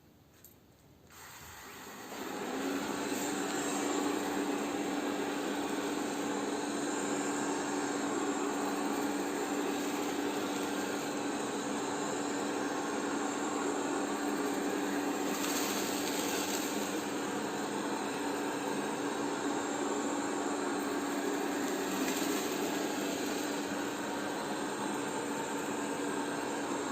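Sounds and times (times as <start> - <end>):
robot vacuum whirring: 1.2 - 26.9.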